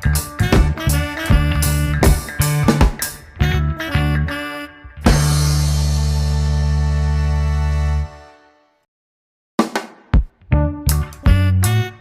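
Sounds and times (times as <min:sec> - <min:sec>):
music with heavy bass: 0:00.0 - 0:08.3, 0:10.4 - 0:12.0.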